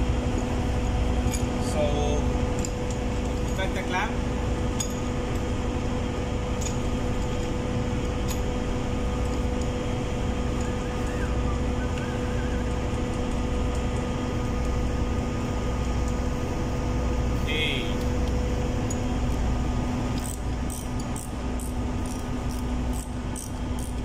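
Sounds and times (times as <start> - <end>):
ship machinery droning: 0.0 - 24.0.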